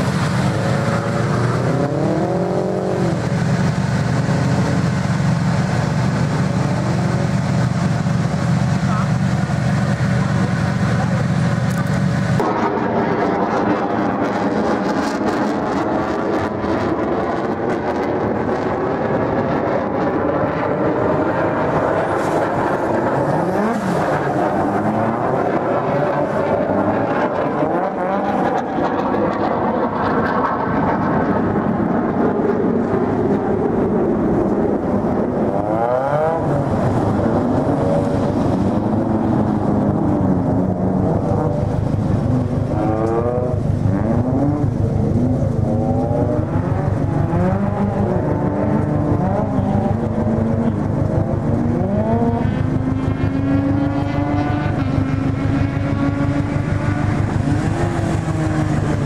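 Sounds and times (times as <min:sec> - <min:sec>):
car engine revving: 0:00.0 - 0:59.0
steady low drone: 0:00.0 - 0:59.0.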